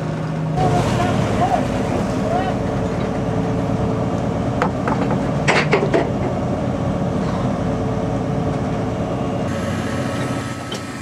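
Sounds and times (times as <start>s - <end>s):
boat engine running: 0.0s - 11.0s
sea noise: 0.0s - 11.0s
wind: 0.0s - 11.0s.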